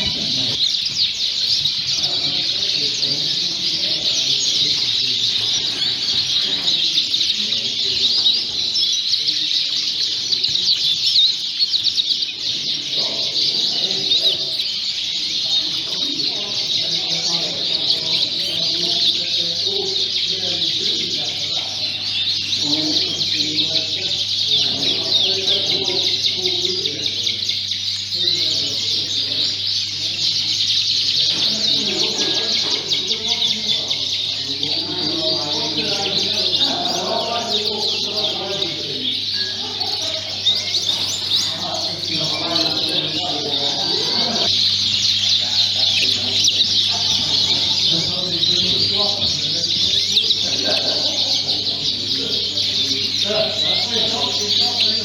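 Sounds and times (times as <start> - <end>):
canaries chirping and singing: 0.0 - 55.0
faint murmur of voices: 0.0 - 55.0.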